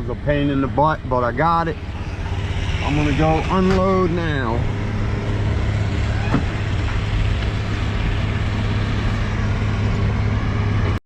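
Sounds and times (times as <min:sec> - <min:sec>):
road noise: 0:00.0 - 0:11.0
truck engine hum: 0:00.0 - 0:11.0.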